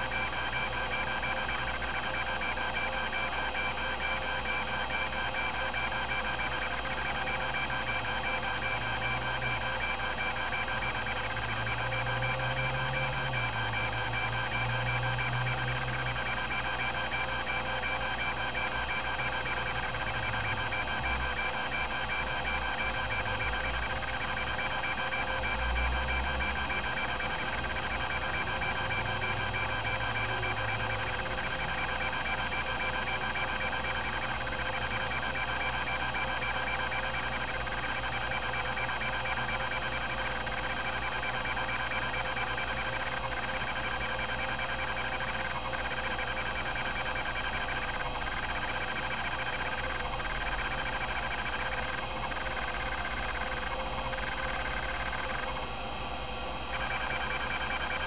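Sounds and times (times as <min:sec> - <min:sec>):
hard drive head actuator buzzing: 0:00.0 - 0:55.7, 0:56.7 - 0:58.0.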